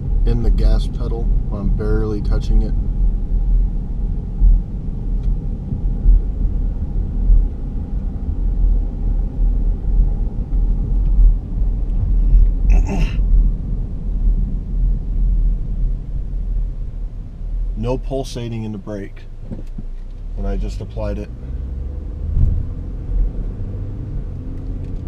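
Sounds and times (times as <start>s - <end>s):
car road noise rumble: 0.0s - 25.0s.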